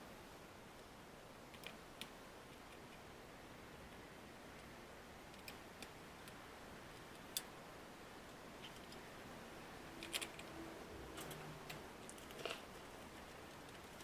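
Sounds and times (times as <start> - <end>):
low hiss: 0.0 - 14.0.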